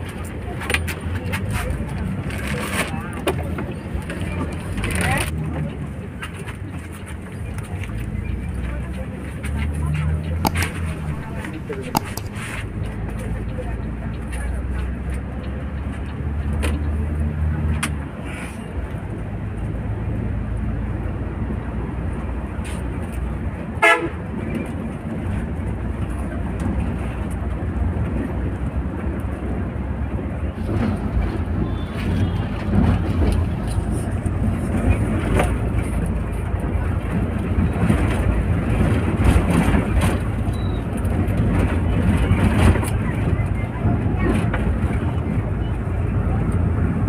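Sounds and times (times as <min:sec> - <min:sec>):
bus engine and tyre rumble: 0:00.0 - 0:47.0.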